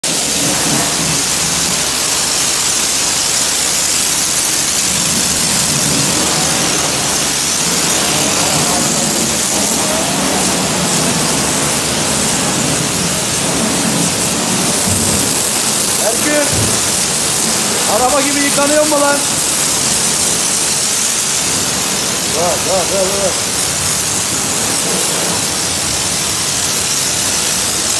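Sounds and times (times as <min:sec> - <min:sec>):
pressure washer spraying: 0:00.0 - 0:27.9.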